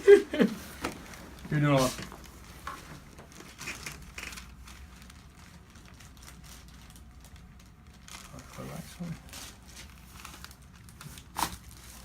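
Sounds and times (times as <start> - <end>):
low steady hum: 0.0 - 12.0
person rustling on treatment table: 0.4 - 7.3, 8.0 - 12.0.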